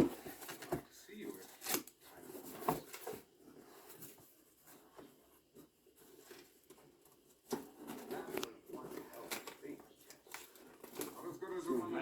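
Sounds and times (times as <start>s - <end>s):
faint scratching: 0.0s - 12.0s.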